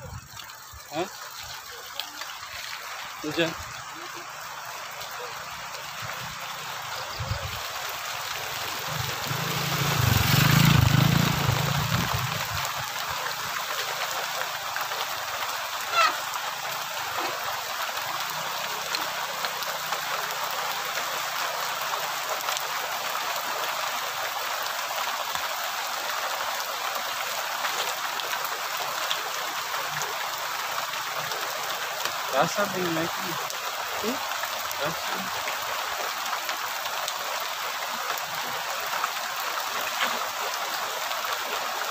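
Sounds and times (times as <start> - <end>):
light rain hiss: 0.0 - 41.9.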